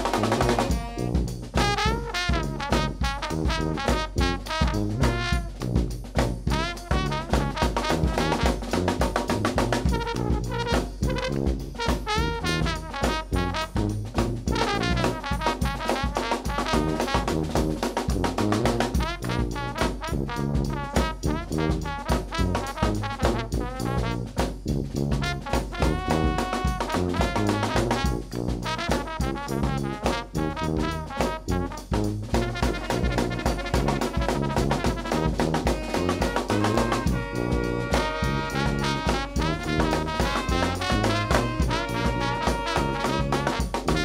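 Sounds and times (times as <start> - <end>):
sousaphone bass: 0.0 - 15.9, 16.6 - 44.0
bass drum and snare drum beat: 0.0 - 44.0
brass band playing: 0.0 - 44.0
trombone lead line: 0.0 - 44.0.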